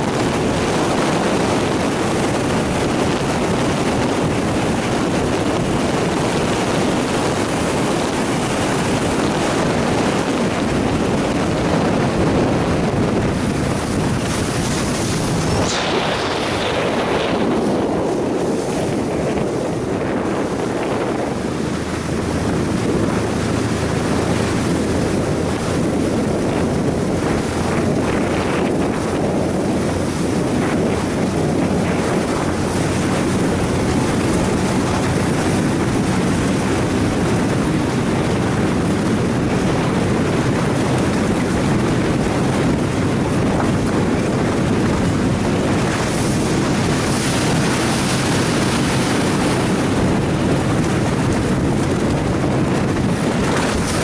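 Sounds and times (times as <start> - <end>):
water rushing past boat hull: 0.0 - 54.0
wind buffeting microphone: 0.0 - 54.0.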